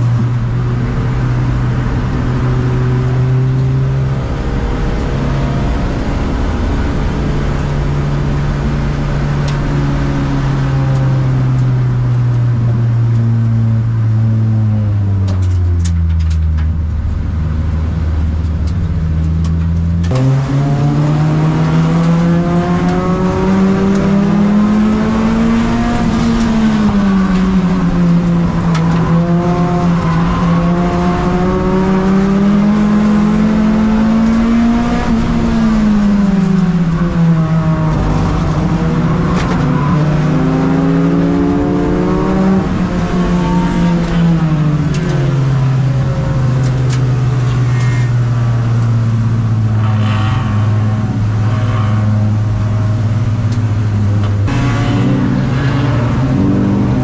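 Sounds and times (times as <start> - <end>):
race car engine at low revs: 0.0 - 57.0.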